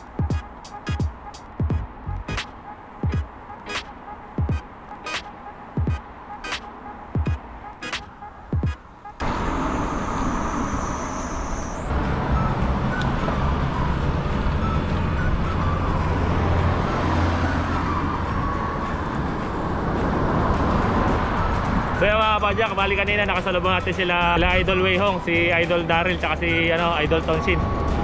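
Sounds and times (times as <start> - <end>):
road and traffic noise: 0.0 - 28.0.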